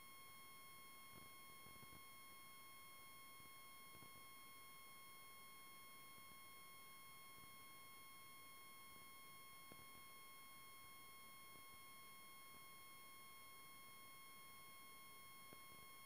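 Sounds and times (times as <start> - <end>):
faint steady high tone: 0.0 - 16.0.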